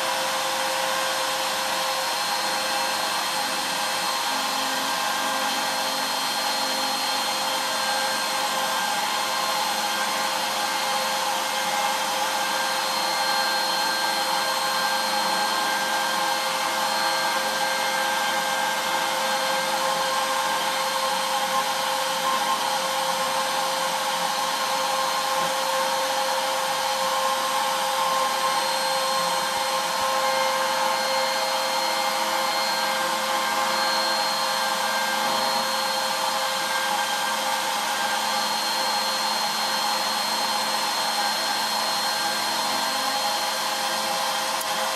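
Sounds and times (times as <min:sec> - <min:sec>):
router spindle whining: 0:00.0 - 0:44.9.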